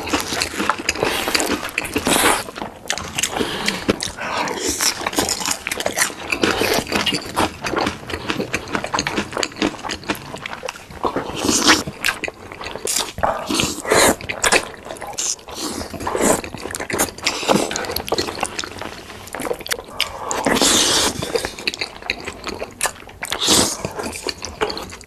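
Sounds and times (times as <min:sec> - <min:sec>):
wet chewing and lip smacking: 0:00.0 - 0:25.0.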